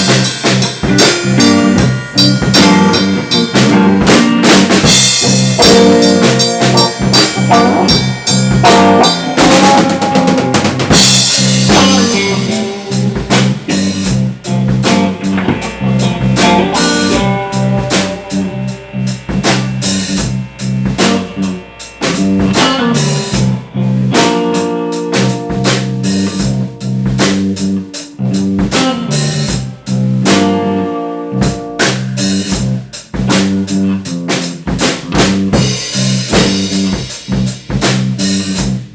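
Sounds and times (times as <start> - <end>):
bass guitar: 0.0 - 38.9
drum kit beat: 0.0 - 38.9
electric guitar: 0.0 - 38.9.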